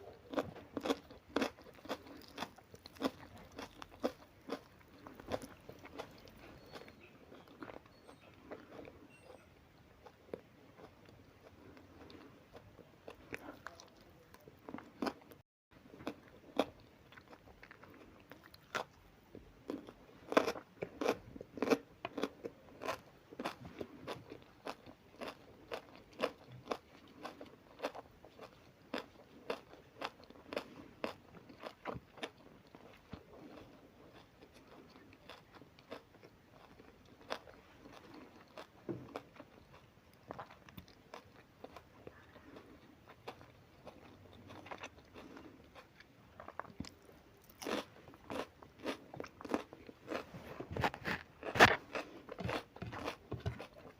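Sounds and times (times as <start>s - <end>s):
person chewing and crunching food: 0.0s - 53.9s.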